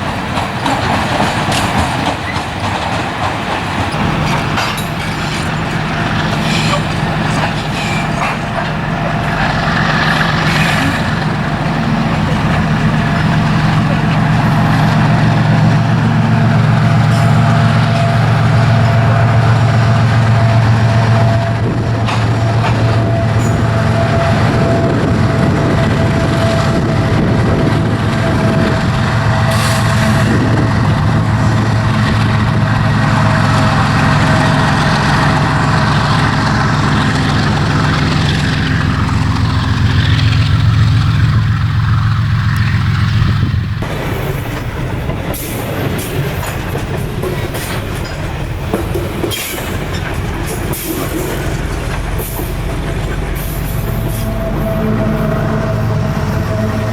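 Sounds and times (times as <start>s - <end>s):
diesel locomotive engine hum: 0.0s - 56.9s
train wagons rolling: 0.0s - 56.9s.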